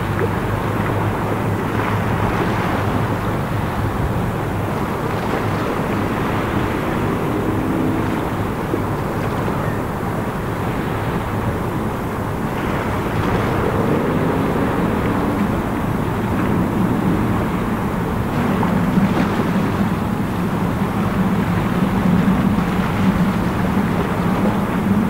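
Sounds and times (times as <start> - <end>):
boat engines droning: 0.0 - 25.0
wind noise on microphone: 0.0 - 25.0.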